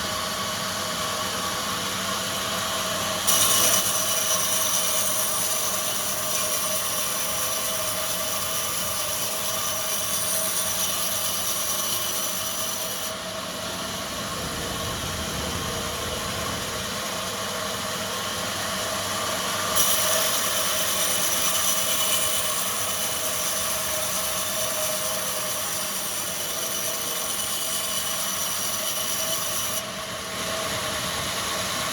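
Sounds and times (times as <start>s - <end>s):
sawmill machinery drone: 0.0s - 31.9s.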